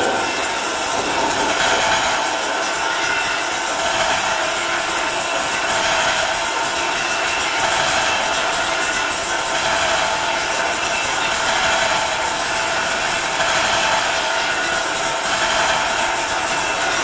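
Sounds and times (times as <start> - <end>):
grainy mechanical noise: 0.0 - 17.0.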